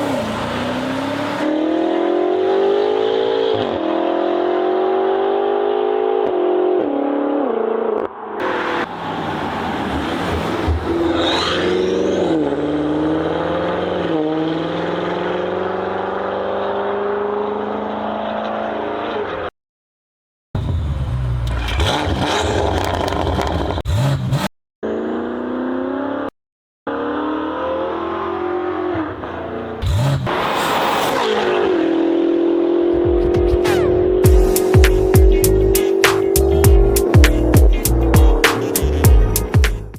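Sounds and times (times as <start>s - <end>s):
car engine accelerating hard: 0.0s - 19.4s, 20.6s - 26.3s, 26.9s - 39.6s
car engine revving: 0.0s - 19.4s, 20.6s - 26.3s, 26.9s - 39.6s.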